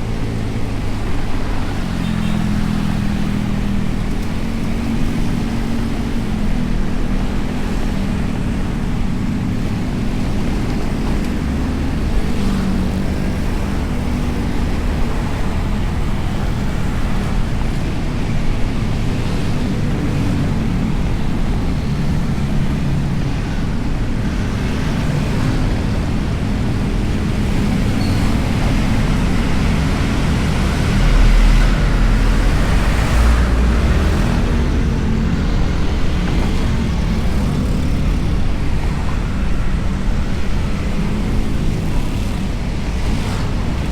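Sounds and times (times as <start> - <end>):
scooter engine rumble: 0.0 - 43.9.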